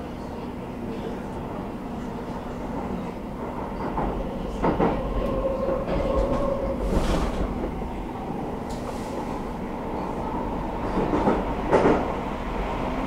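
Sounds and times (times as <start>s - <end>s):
train rumbling through tunnel: 0.0s - 13.0s.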